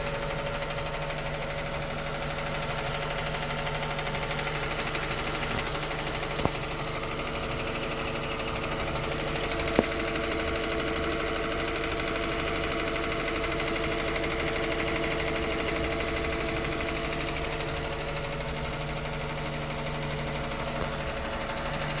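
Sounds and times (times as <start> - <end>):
car engine idling: 0.0 - 22.0
fast engine ticking: 0.0 - 22.0.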